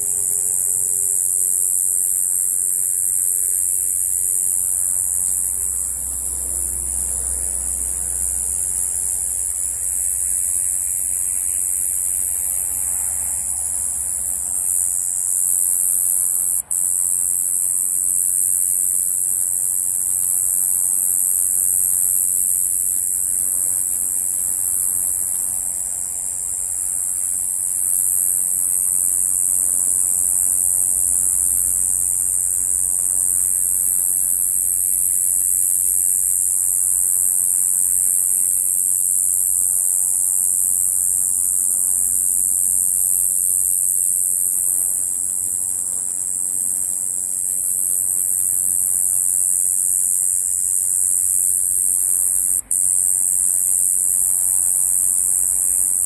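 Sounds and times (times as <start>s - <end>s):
katydid buzzing song: 0.0s - 56.0s.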